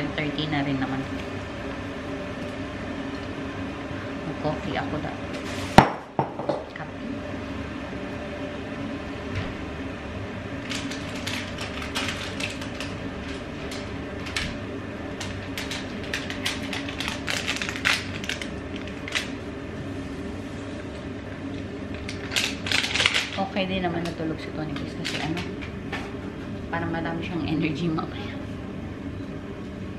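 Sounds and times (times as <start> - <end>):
low background hum: 0.0 - 29.9.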